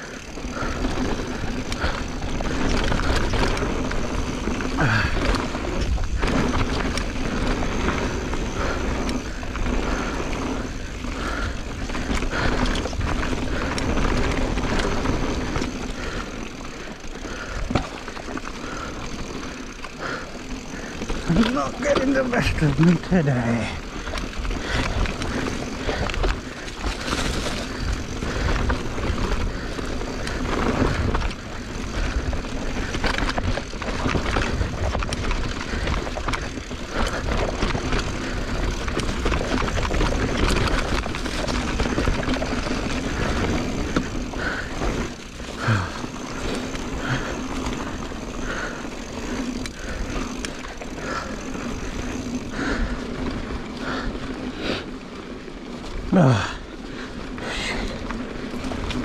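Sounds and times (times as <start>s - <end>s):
bike rattling and knocking: 0.0s - 59.0s
tyres rolling over dirt: 0.0s - 59.0s.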